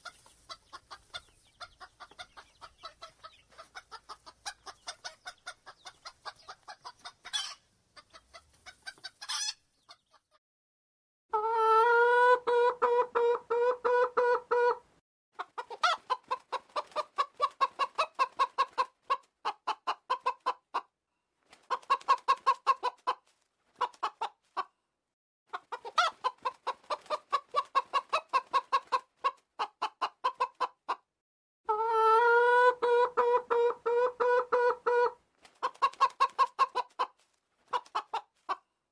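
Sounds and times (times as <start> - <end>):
chicken clucking: 0.0 - 10.4, 11.3 - 20.9, 21.5 - 24.8, 25.5 - 31.1, 31.7 - 38.7.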